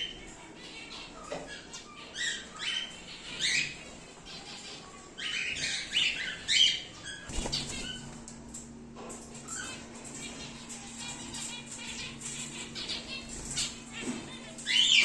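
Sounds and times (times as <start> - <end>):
cockatiels chirping: 0.0 - 8.2, 9.4 - 15.0.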